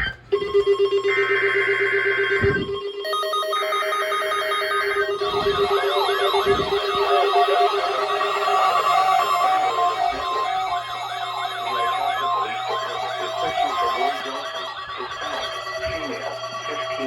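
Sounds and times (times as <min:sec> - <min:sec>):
steady electronic alarm tone: 0:00.0 - 0:17.0
fast wailing sirens: 0:02.4 - 0:17.0
high buzzing tones: 0:02.4 - 0:17.0.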